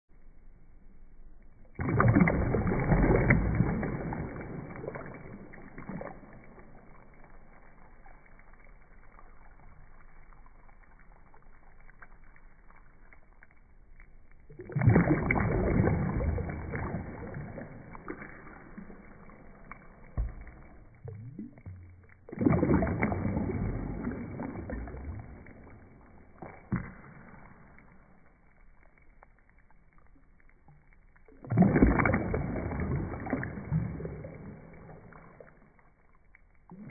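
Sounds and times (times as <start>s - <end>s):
water splashing and bubbling: 1.3s - 36.9s.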